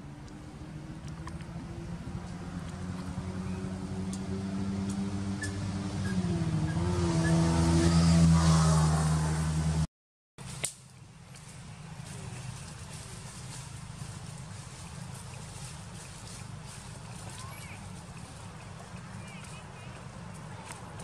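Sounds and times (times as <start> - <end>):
vehicle engine running: 0.0 - 9.9, 11.0 - 21.0.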